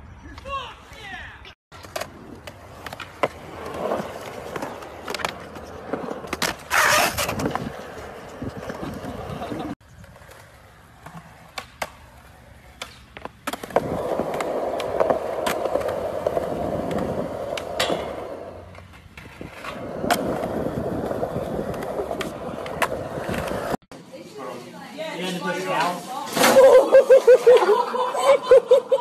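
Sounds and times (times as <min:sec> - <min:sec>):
skateboard wheels rolling on concrete: 0:00.2 - 0:29.0.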